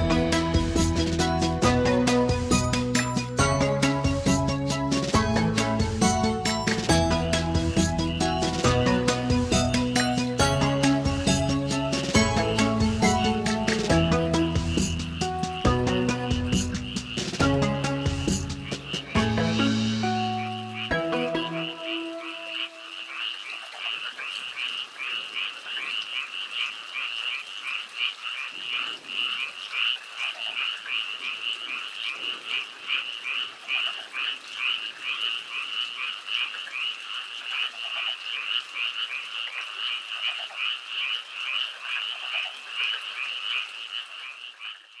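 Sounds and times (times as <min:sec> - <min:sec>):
frogs croaking: 0:00.0 - 0:45.0.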